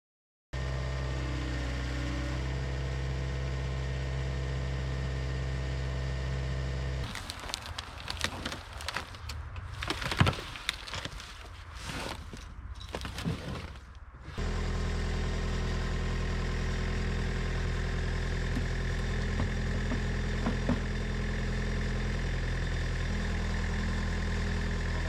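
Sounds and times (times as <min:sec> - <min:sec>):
engine running: 0:00.6 - 0:25.0.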